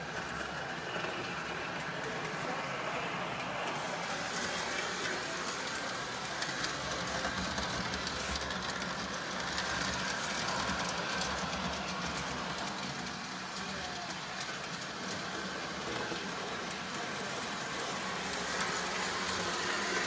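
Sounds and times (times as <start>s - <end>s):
toy train hum: 0.0s - 20.0s
wheels clicking on rails: 0.0s - 20.0s.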